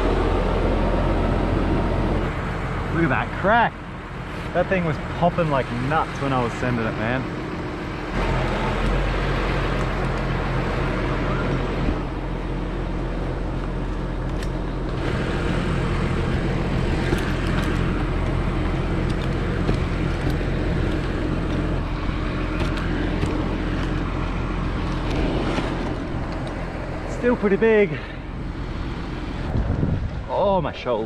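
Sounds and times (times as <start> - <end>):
crane engine humming: 0.0 - 31.0.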